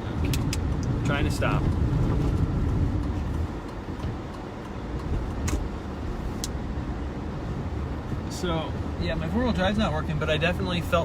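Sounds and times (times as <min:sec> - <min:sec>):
tyres and drivetrain rumble: 0:00.0 - 0:11.0.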